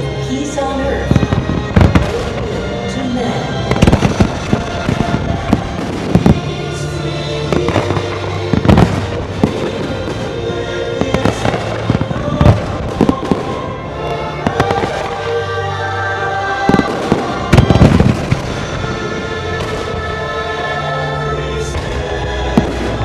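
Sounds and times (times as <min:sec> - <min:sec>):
loud show music: 0:00.0 - 0:23.0
fireworks bursting: 0:01.0 - 0:20.8, 0:21.6 - 0:23.0.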